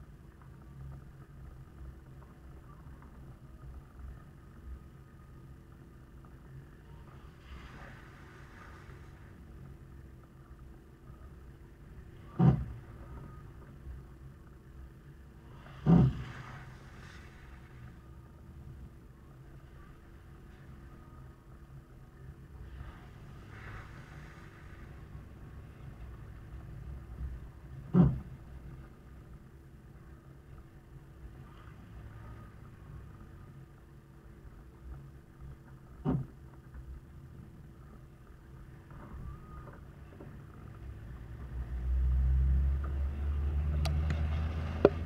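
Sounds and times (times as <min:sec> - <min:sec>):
diesel engine and tyres on dirt road: 0:00.0 - 0:45.0.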